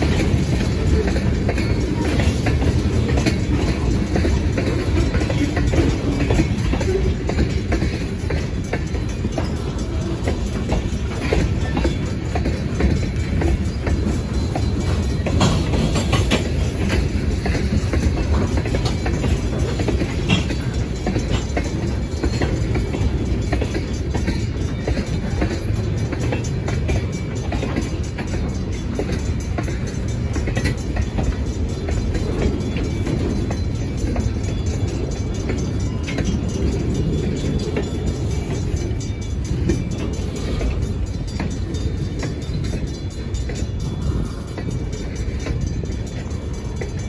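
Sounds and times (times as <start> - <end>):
clicks and knocks of rail cars: 0.0 - 47.0
freight train rumbling past: 0.0 - 47.0.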